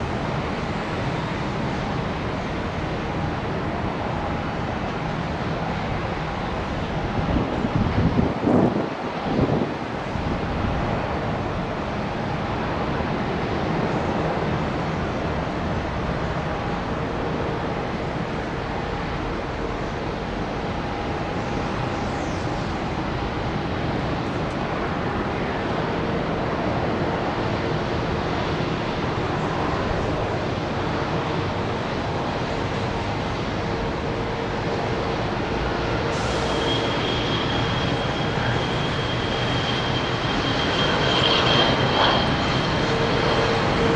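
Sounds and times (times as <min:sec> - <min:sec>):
jet engines rushing: 0:00.0 - 0:43.9.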